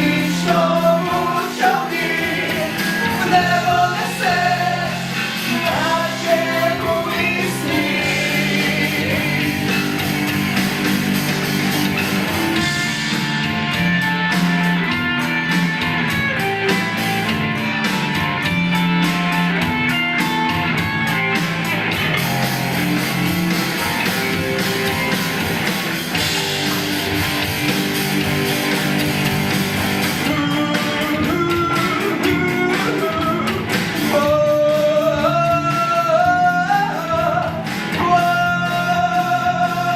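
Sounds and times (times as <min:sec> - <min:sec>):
live band with guitars: 0:00.0 - 0:39.9.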